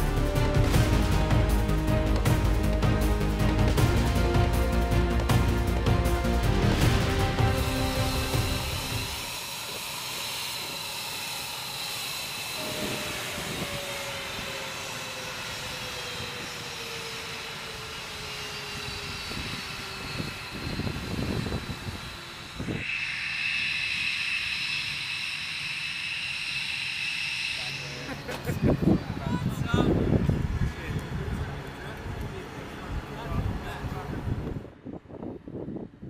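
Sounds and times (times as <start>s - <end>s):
jet turbine whine: 0.0s - 35.9s.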